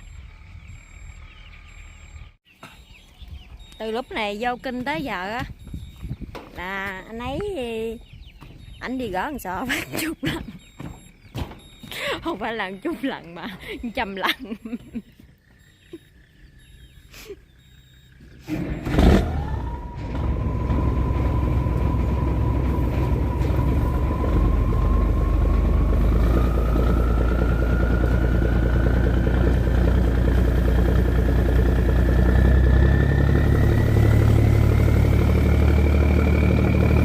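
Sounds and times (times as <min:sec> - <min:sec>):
boat engine whine: 0:00.0 - 0:07.8, 0:08.6 - 0:37.0.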